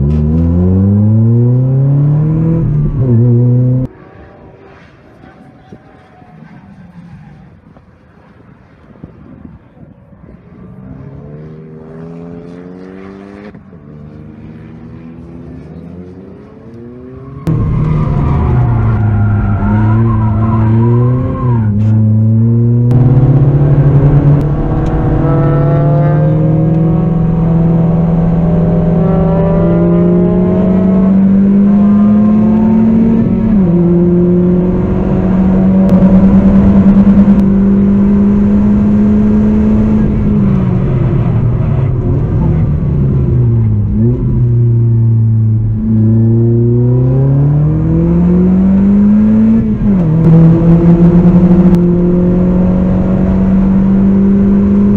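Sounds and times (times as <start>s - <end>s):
car engine revving: 0.0s - 8.2s, 10.8s - 54.9s.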